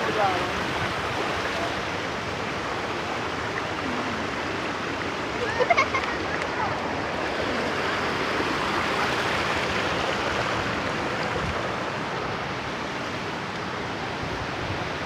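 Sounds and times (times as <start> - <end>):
waterfall rushing and splashing: 0.0 - 15.0.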